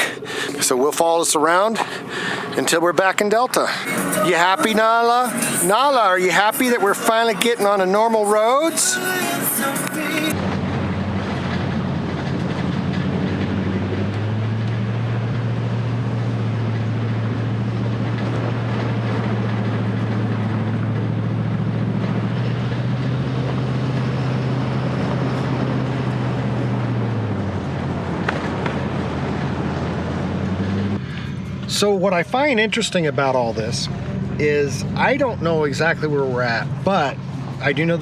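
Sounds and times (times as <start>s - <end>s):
car engine hum from inside: 0.0s - 38.0s.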